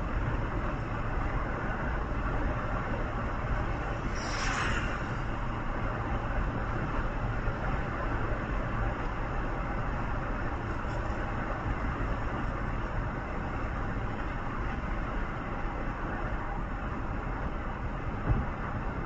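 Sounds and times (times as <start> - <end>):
vehicle engine and tyre noise: 0.0 - 19.0.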